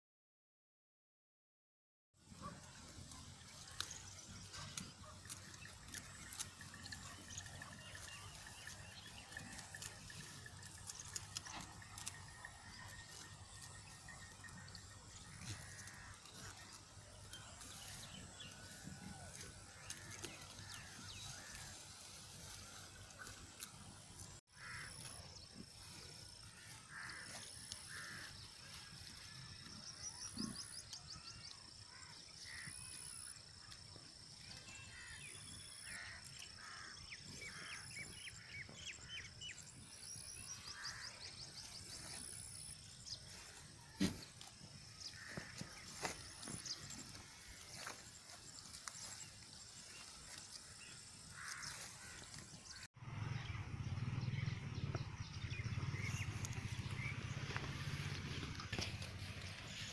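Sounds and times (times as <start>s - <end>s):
birds chirping and trilling: 2.4s - 59.9s.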